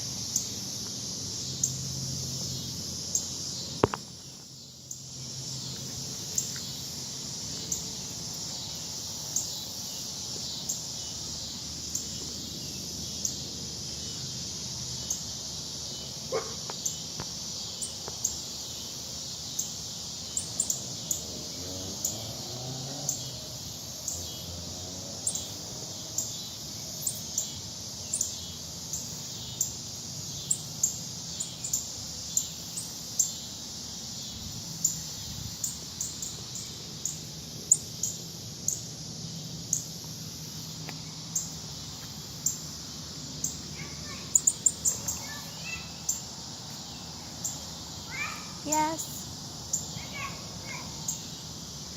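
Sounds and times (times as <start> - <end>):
insect buzz: 0.0 - 51.9.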